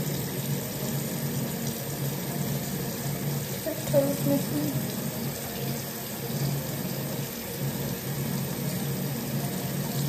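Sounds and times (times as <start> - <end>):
running water from tap: 0.0 - 10.0.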